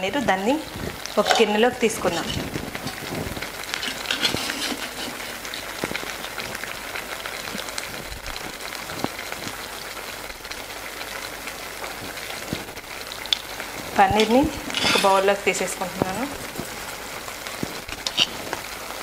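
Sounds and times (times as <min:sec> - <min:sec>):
sauce sizzling and bubbling: 0:00.1 - 0:19.0.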